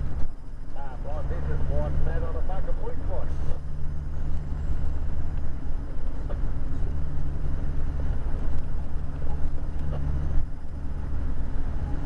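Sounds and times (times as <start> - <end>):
truck diesel engine drone: 0.0 - 12.0
tyre and road noise: 0.0 - 12.0.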